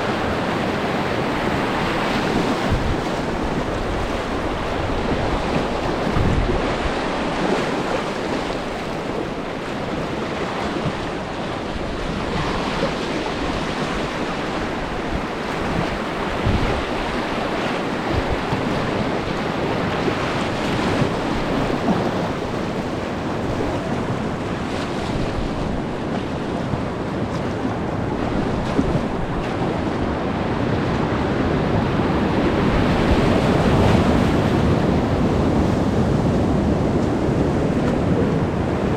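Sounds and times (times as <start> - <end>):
whitewater rapid rushing: 0.0 - 38.9
wind buffeting microphone: 0.0 - 38.9.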